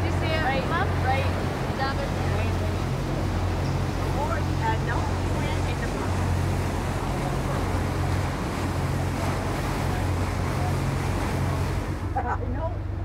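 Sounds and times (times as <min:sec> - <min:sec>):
boat engine humming: 0:00.0 - 0:13.0
wind and water rushing: 0:00.0 - 0:13.0.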